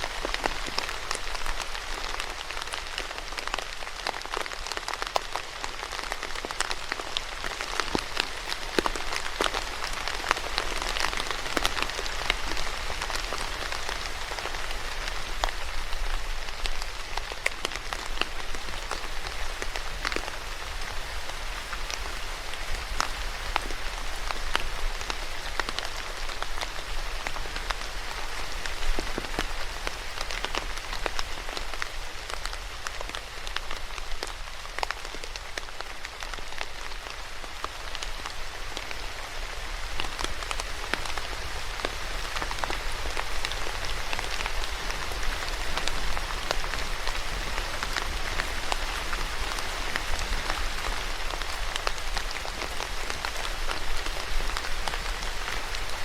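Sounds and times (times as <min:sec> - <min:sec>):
rain drops ticking: 0:00.0 - 0:56.0
steady rain hissing: 0:00.0 - 0:56.0.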